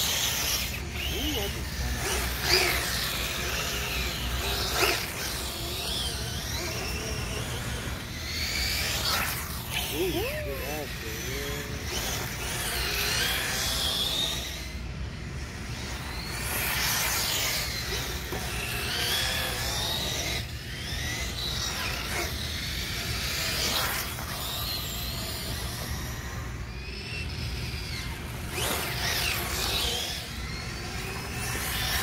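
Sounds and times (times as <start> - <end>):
electric rc car motor whine: 0.0 - 32.0.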